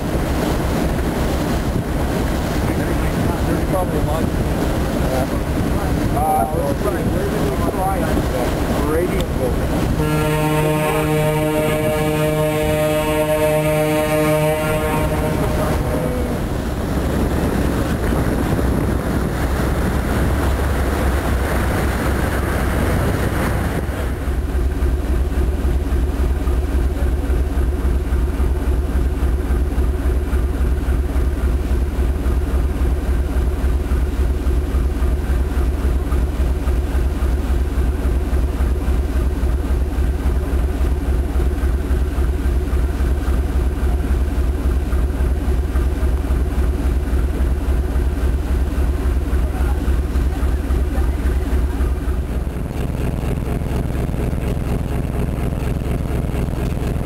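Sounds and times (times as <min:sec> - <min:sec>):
churning propeller wash: 0:00.0 - 0:57.0
diesel engine throbbing: 0:00.0 - 0:57.0.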